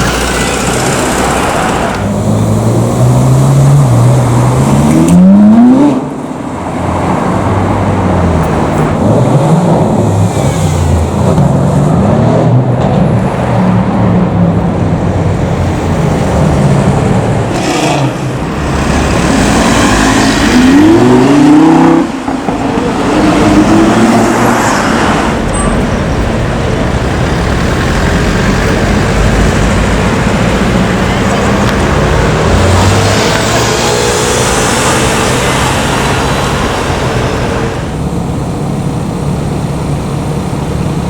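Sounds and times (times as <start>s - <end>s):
street traffic noise: 0.0s - 41.0s.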